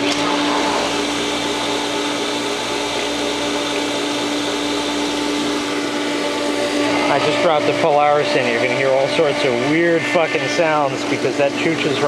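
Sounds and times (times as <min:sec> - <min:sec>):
pool pump motor whirring: 0:00.0 - 0:12.0.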